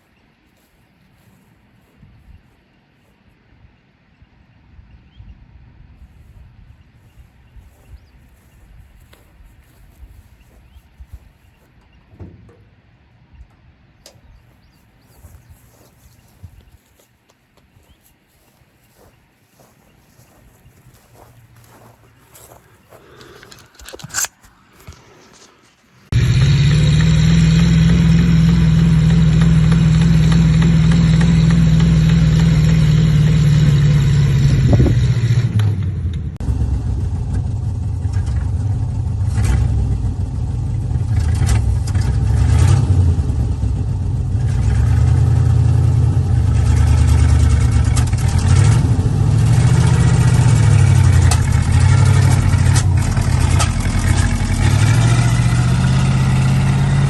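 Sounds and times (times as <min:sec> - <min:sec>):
truck engine running: 0:07.1 - 0:17.1, 0:17.8 - 0:23.8, 0:26.1 - 0:57.0.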